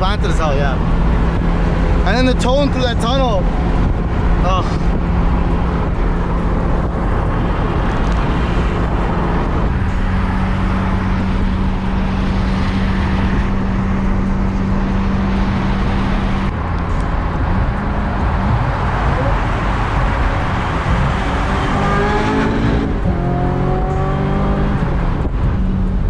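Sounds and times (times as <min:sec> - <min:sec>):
car engine running: 0:00.0 - 0:26.0
road noise: 0:00.0 - 0:26.0
wind noise: 0:00.0 - 0:26.0.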